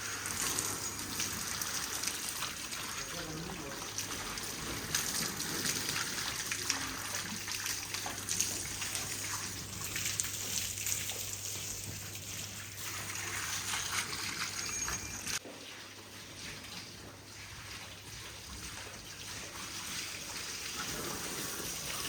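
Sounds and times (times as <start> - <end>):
water splashing and trickling: 0.0 - 22.0.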